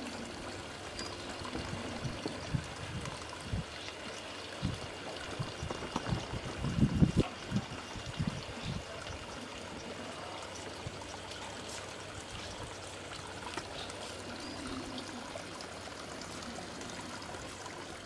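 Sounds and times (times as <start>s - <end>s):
small stream trickling: 0.0s - 18.0s.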